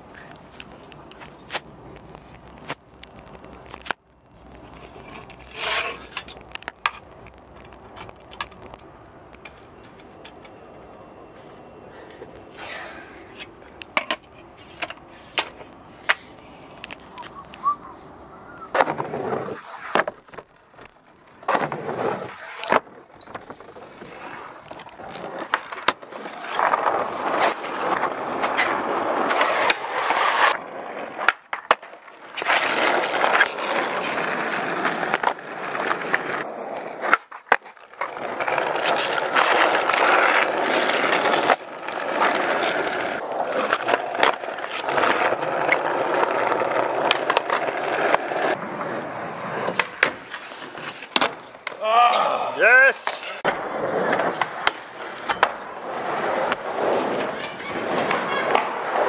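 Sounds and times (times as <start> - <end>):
skateboard wheels rolling on asphalt: 0.0 - 59.0
skateboard tail clacks: 0.2 - 10.6, 12.0 - 59.0.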